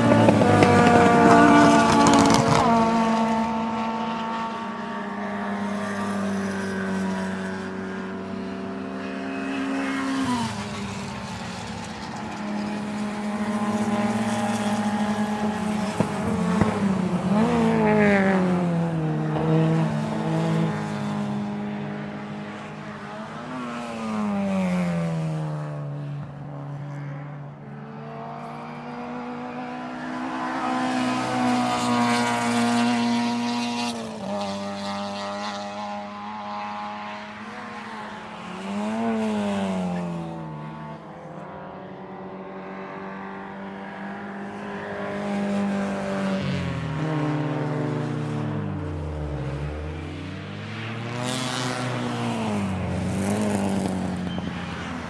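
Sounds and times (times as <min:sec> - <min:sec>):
race car engines passing by: 0:00.0 - 0:55.0.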